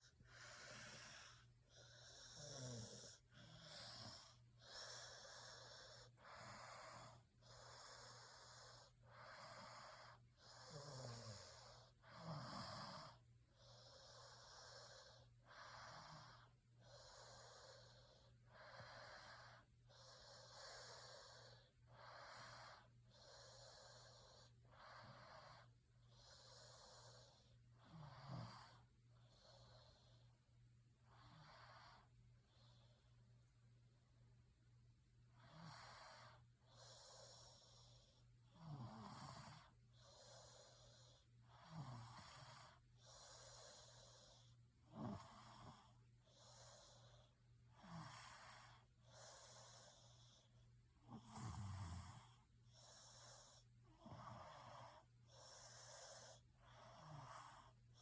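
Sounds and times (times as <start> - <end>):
faint snoring: 0.0 - 30.4, 31.0 - 33.2, 35.2 - 58.0.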